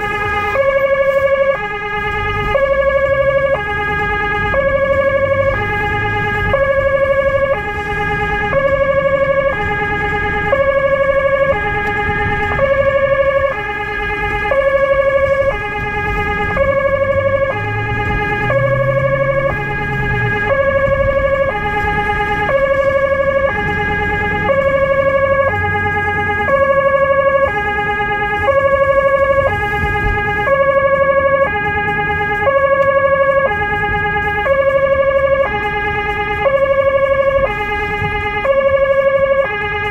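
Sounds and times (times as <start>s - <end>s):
car engine and road noise: 0.0s - 39.9s
two-tone emergency siren: 0.0s - 39.9s.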